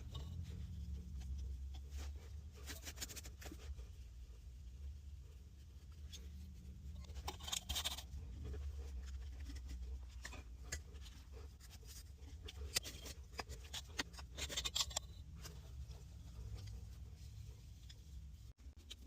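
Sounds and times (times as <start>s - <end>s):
low steady hum: 0.0s - 19.0s
scraping and clicking on pipe and soil: 0.0s - 19.0s.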